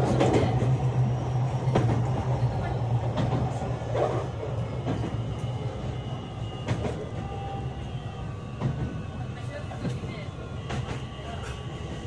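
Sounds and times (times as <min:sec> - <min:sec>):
rail clicks: 0:00.0 - 0:12.0
train motors and wheels rumbling: 0:00.0 - 0:12.0.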